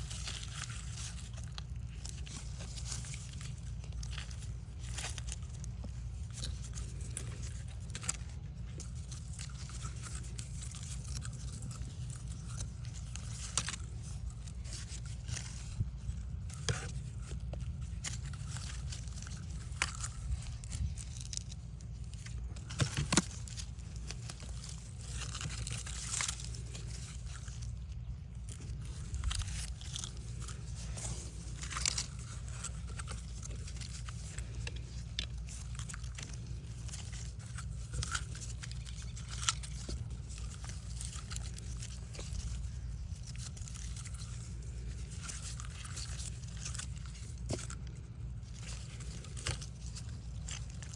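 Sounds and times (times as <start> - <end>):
low background rumble: 0.0 - 50.9
scrapes and clicks on cable: 0.0 - 50.9.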